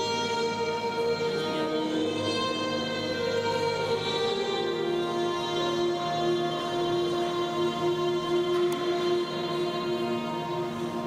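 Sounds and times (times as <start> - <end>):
slow instrumental music with held notes: 0.0 - 11.0.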